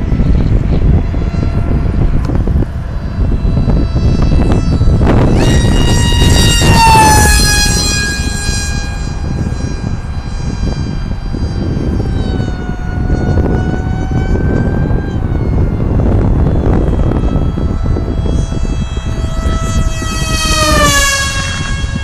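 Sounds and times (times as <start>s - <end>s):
electric motor and propeller whining: 0.0s - 22.0s.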